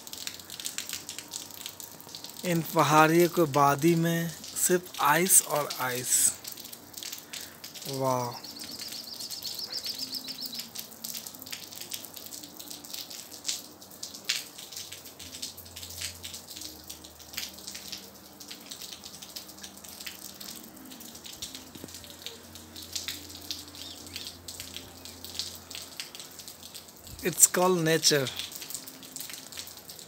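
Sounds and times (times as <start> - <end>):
water dripping: 0.0 - 30.0.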